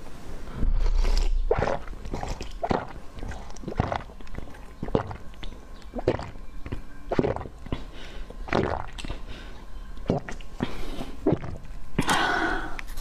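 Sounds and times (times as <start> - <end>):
wet slurping and gulping: 0.8 - 9.3, 10.0 - 12.1.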